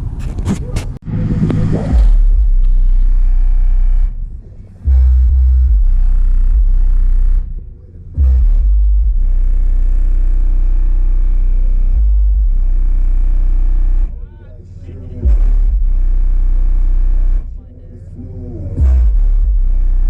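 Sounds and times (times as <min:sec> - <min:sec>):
low vehicle engine rumble: 0:00.0 - 0:20.0.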